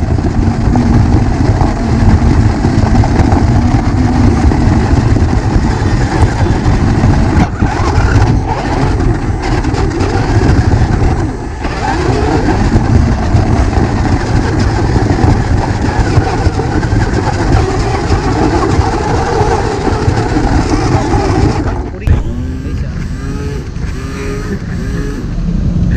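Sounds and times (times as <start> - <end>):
radio-controlled car motor: 0.9 - 25.3.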